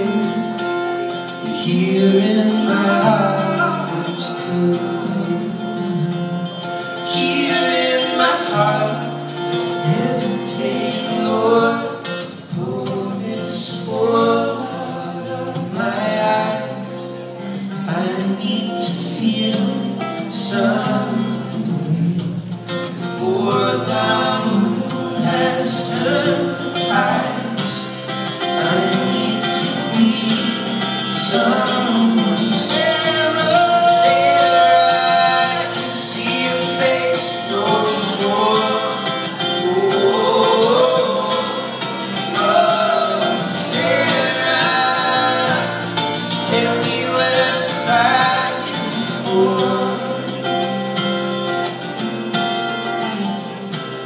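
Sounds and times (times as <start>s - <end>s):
two voices singing in harmony: 0.0s - 22.3s, 23.0s - 50.9s
strummed acoustic guitar: 0.0s - 54.0s.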